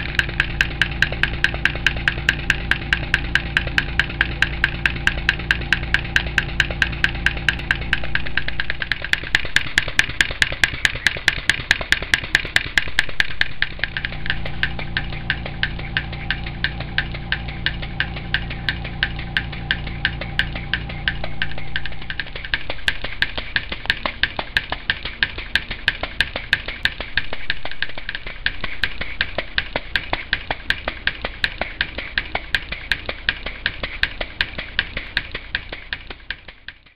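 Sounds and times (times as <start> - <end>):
low steady hum: 0.0 - 36.8
steam engine exhaust beating: 0.0 - 36.9.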